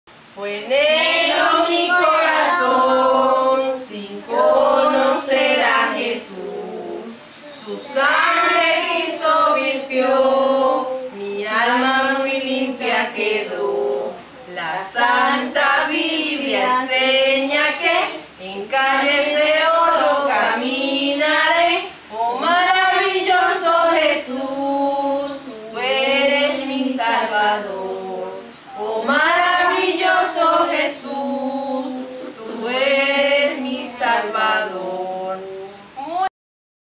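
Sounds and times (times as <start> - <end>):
woman singing unaccompanied: 0.1 - 36.3
children singing: 0.4 - 36.1.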